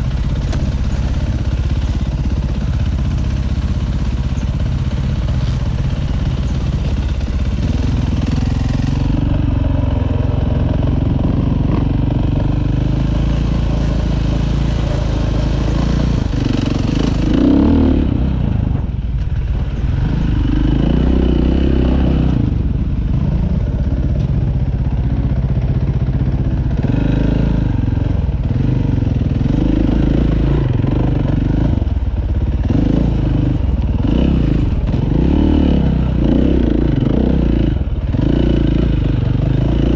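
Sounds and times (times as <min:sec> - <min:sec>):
dirt bike engine revving: 0:00.0 - 0:24.0, 0:26.7 - 0:39.9.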